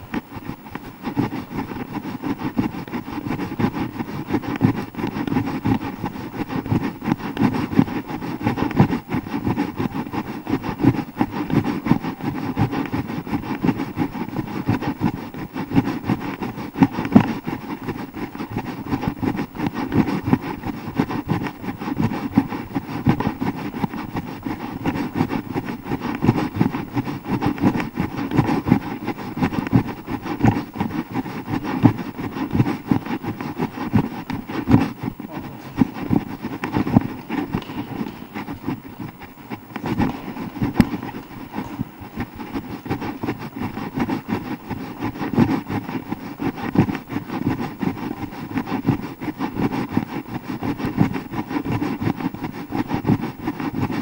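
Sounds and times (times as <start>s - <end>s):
running footfalls: 0.0s - 54.0s.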